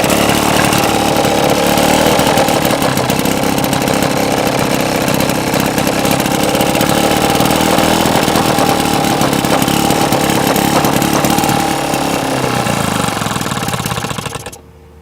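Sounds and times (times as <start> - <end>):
outboard boat motor running: 0.0 - 15.0.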